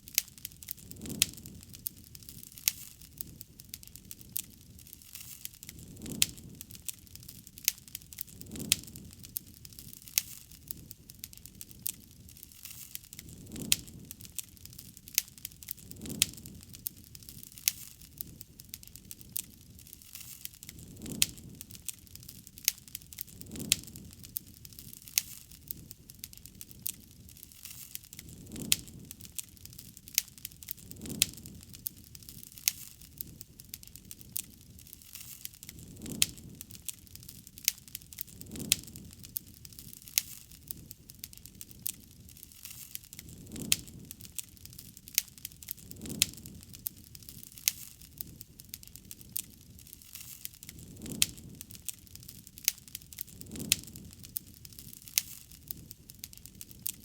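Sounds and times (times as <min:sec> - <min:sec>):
soft flame swells: 0:00.0 - 0:57.0
wood fire crackling and popping: 0:00.0 - 0:57.0.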